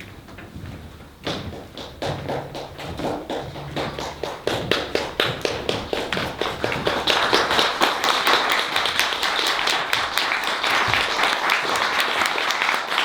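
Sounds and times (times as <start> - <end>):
audience applause: 1.8 - 13.0.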